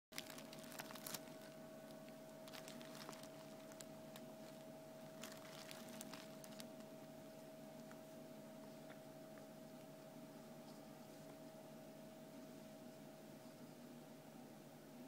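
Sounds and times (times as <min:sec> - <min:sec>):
faint steady hum: 0:00.2 - 0:15.0.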